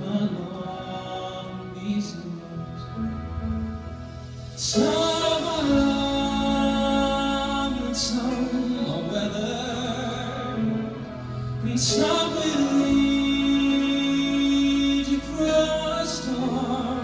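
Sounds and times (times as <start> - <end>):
man singing a ballad: 0.0 - 3.5, 4.6 - 17.0
grand piano: 0.0 - 17.0
string quartet: 0.0 - 17.0.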